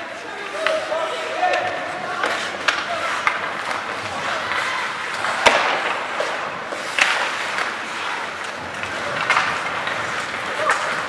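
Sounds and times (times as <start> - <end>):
skates scraping on ice: 0.0 - 11.0
stick and puck knocks: 1.4 - 11.0.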